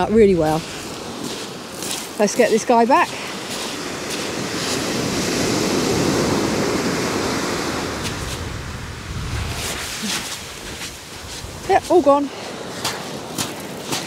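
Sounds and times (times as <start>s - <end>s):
waves washing up shingle beach: 0.0s - 14.0s.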